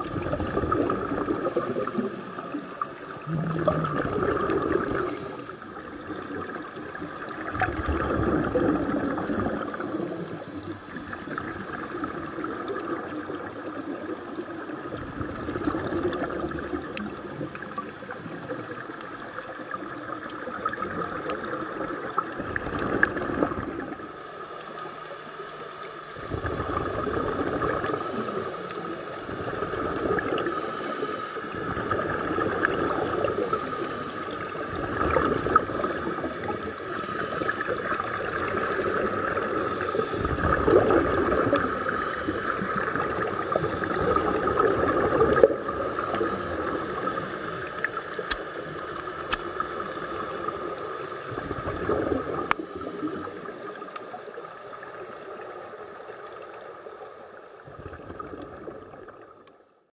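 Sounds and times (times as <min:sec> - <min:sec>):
faint steady tone: 0:00.0 - 0:22.3, 0:27.6 - 0:57.6
underwater bubbling exhalation: 0:00.0 - 0:24.4, 0:26.1 - 0:55.2, 0:57.6 - 0:59.4.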